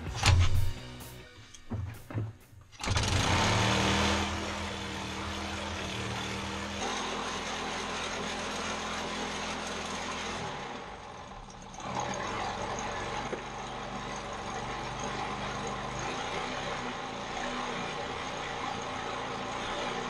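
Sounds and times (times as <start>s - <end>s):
small engine revving: 2.8s - 20.0s.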